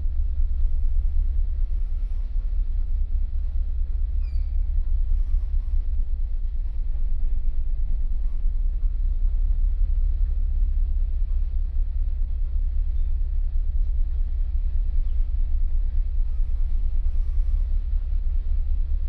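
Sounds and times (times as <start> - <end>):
ferry engines rumbling: 0.0 - 19.0.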